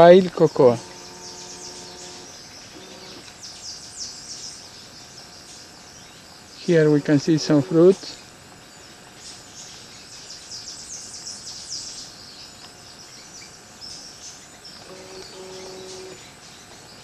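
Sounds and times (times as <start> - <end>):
birds chirping: 0.0 - 17.0
insect hiss: 0.0 - 17.0.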